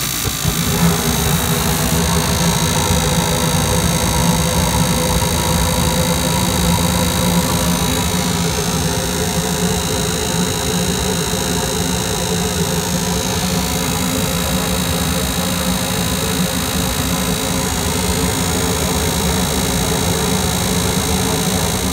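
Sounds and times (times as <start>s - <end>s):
rooftop unit humming with whine: 0.0s - 21.9s.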